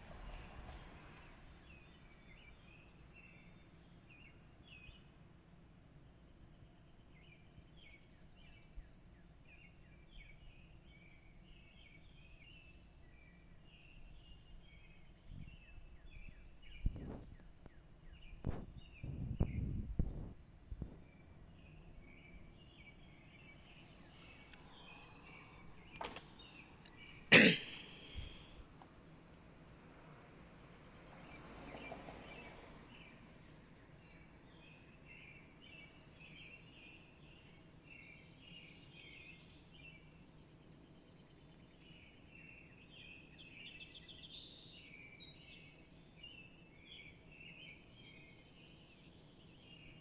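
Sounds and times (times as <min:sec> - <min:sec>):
birds chirping: 0:06.1 - 0:50.0.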